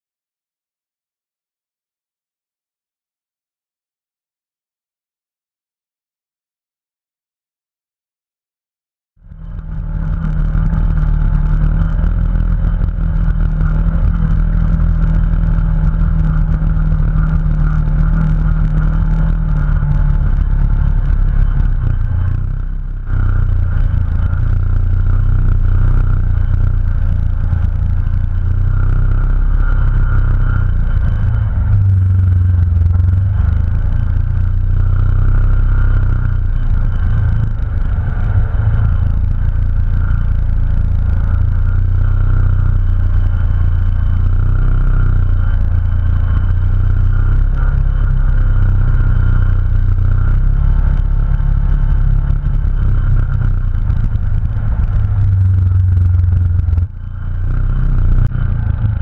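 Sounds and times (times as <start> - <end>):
vehicle engine running: 9.2 - 59.0.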